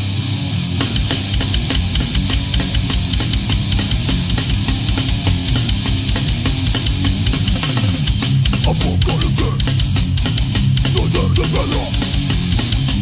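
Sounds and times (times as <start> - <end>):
heavy metal music: 0.0 - 13.0
fast bass drum beats: 0.8 - 13.0.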